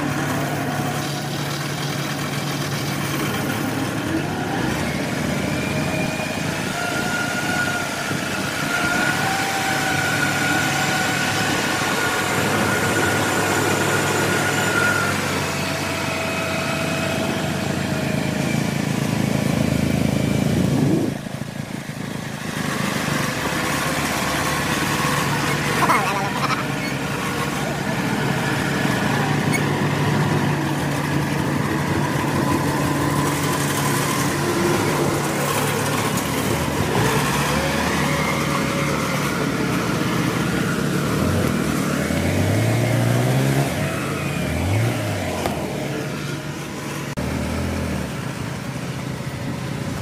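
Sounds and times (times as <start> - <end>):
combine harvester running: 0.0 - 50.0
tracked vehicle engine droning: 0.0 - 50.0.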